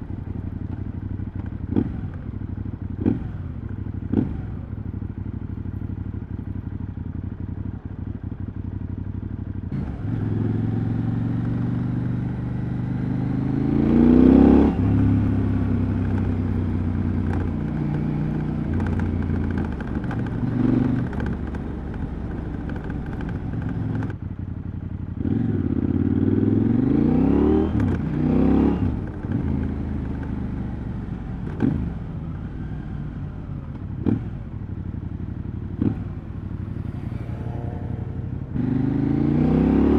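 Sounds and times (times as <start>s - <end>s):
motorcycle engine revving: 0.0s - 5.4s, 9.6s - 39.9s.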